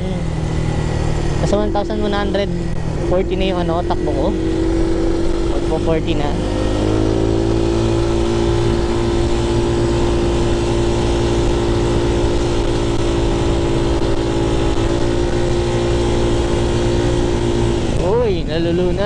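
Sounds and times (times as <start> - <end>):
scooter engine droning: 0.0 - 19.0
wind over microphone: 0.0 - 19.0.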